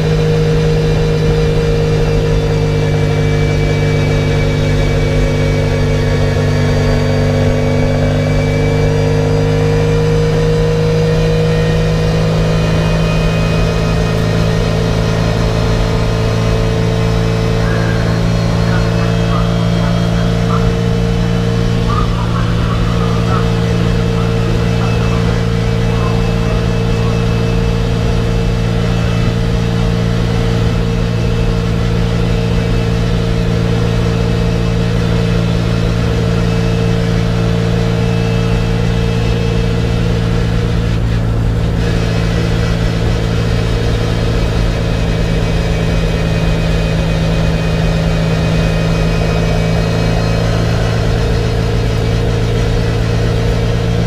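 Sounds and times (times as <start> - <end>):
race car engine from inside cabin: 0.0 - 54.0
road and wind noise: 0.0 - 54.0.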